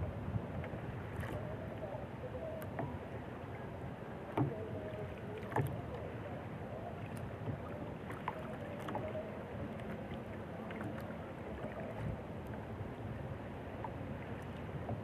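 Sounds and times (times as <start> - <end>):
water noise around boat: 0.0 - 15.0
wind: 0.0 - 15.0.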